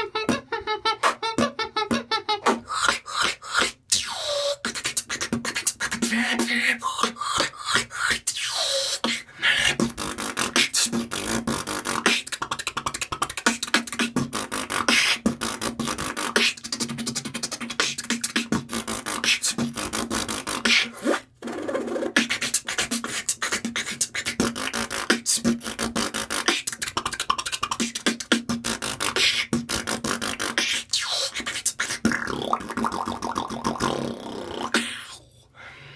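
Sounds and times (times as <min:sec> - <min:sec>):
man beatboxing: 0:00.0 - 0:35.2.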